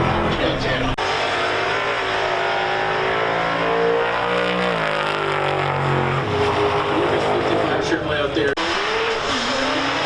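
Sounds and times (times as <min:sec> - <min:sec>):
race car engine at high revs: 0:00.0 - 0:10.0.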